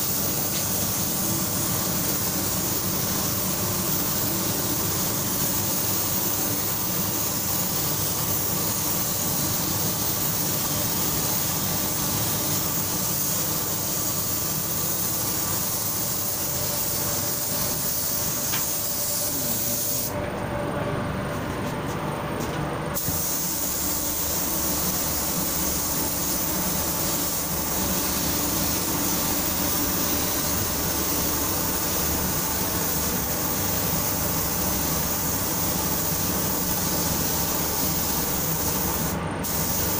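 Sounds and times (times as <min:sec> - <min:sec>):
paint spray gun hissing: 0:00.0 - 0:20.1, 0:23.0 - 0:39.9.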